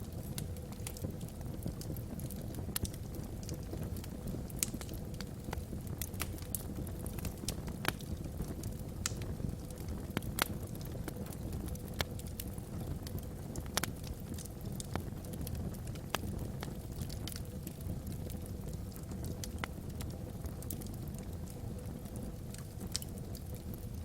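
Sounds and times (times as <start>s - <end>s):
logs crackling and popping: 0.0s - 24.0s
low rumble of fire: 0.0s - 24.0s.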